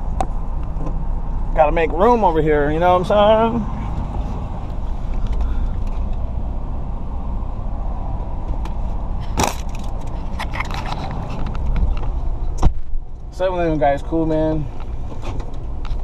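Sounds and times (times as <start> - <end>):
car cabin engine rumble: 0.0 - 16.0.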